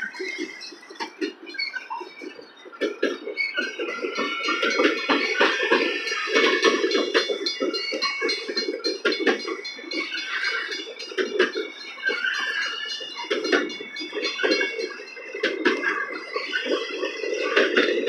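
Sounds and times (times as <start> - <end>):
freight train wheels on rails: 0.0 - 18.0
metallic clanks and clinks: 2.9 - 18.0.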